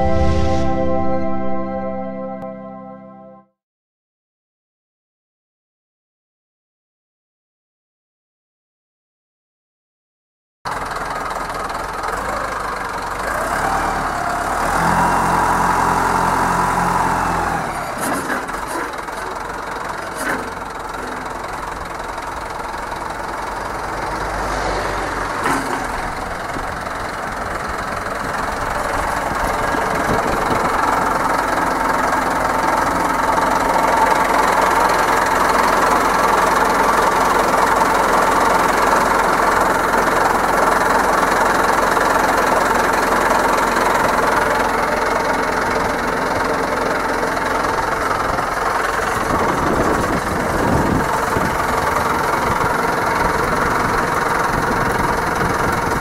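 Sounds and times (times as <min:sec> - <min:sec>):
diesel engine revving: 0:10.8 - 0:56.0.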